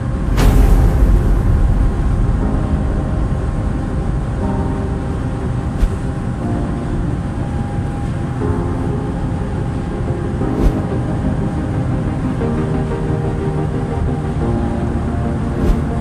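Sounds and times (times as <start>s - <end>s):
faint steady tones: 0.0s - 16.0s.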